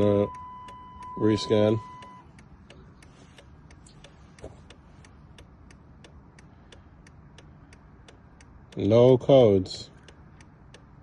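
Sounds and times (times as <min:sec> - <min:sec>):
faint steady ticking: 0:00.0 - 0:11.0.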